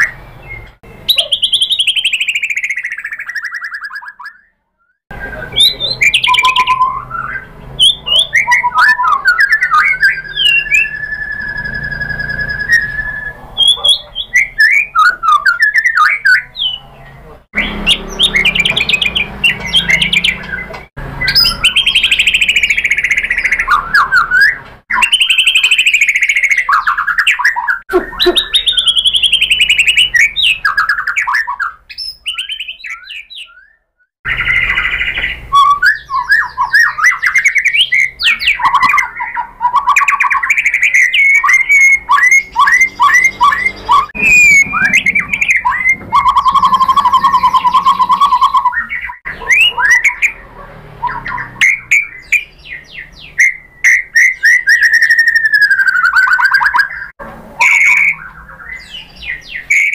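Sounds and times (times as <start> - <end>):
songbird whistling and trilling: 0.0 - 16.9, 17.6 - 50.4, 51.0 - 59.9.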